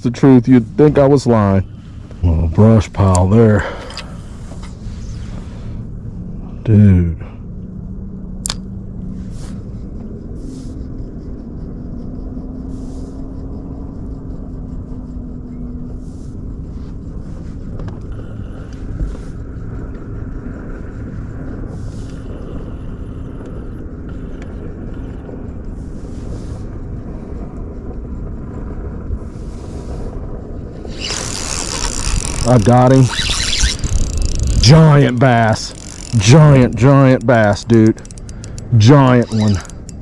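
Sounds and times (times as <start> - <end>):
boat motor rumbling: 0.0 - 40.0
wind on microphone: 7.6 - 40.0.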